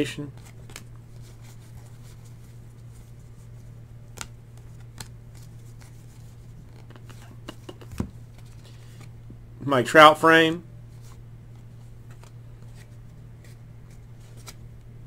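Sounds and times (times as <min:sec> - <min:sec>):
steady low hum: 0:00.0 - 0:15.0
cards being flipped by hand: 0:00.3 - 0:09.2, 0:10.9 - 0:14.9.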